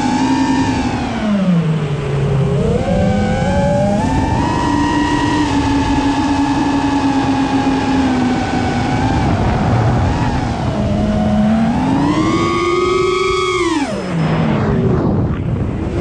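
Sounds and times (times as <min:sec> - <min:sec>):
drone motors whining: 0:00.0 - 0:16.0
wind rush: 0:02.0 - 0:16.0.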